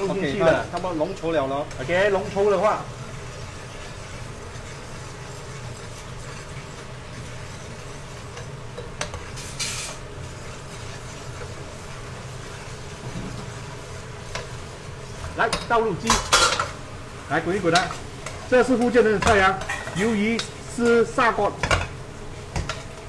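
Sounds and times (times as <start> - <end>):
sauce bubbling in a wok: 0.0 - 23.0
metal ladle stirring: 0.7 - 16.8, 17.6 - 21.0.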